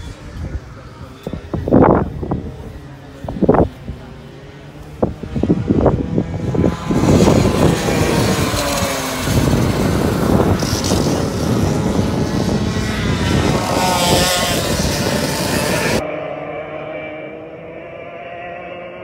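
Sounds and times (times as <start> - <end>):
racing kart engines passing: 0.0 - 19.0.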